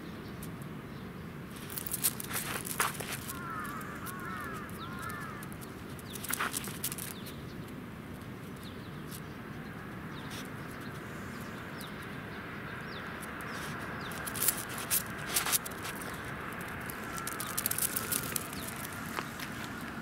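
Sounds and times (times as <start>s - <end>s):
birds chirping: 1.6s - 7.8s, 8.4s - 20.0s
background bird chorus: 3.0s - 7.8s, 8.4s - 20.0s.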